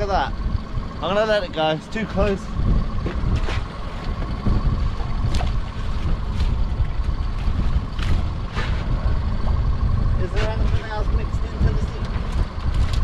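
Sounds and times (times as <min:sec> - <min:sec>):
outboard motor idling: 0:00.0 - 0:13.0
wind buffeting microphone: 0:00.0 - 0:13.0.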